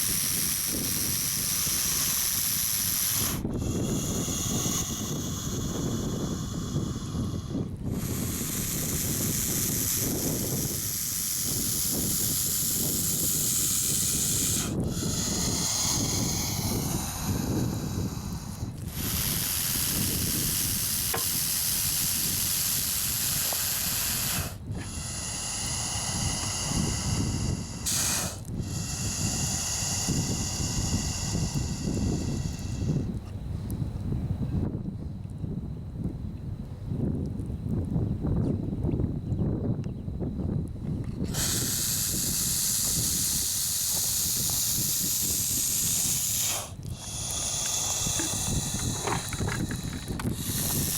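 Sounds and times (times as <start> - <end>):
snake hissing: 0.0 - 33.2, 41.2 - 50.9
wind buffeting microphone: 0.0 - 50.9.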